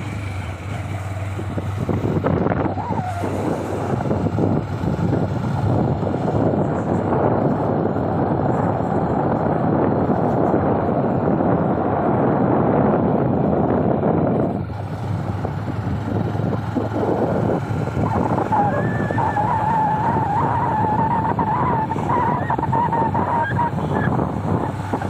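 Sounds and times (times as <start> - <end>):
motorcycle engine riding: 0.0 - 25.0
wind buffeting microphone: 0.0 - 25.0.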